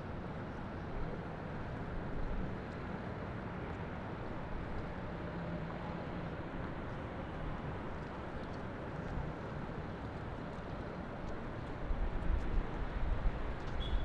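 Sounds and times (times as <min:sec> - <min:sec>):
city traffic rumble: 0:00.1 - 0:14.0.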